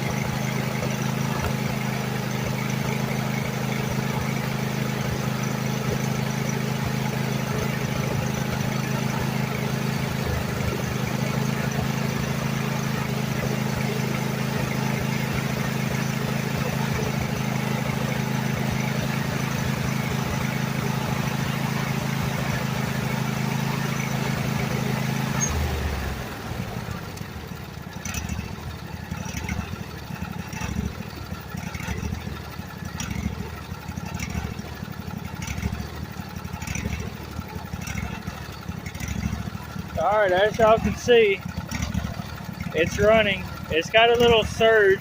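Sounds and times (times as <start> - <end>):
engine running and idling: 0.0 - 45.0.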